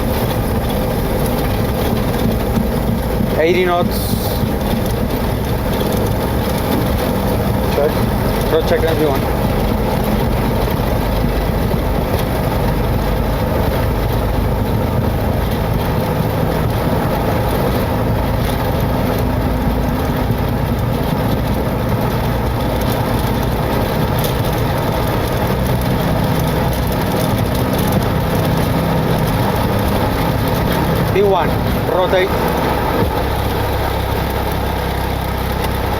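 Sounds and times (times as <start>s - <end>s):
jet engines at takeoff thrust: 0.0s - 35.9s
low rumble from runway: 0.0s - 35.9s.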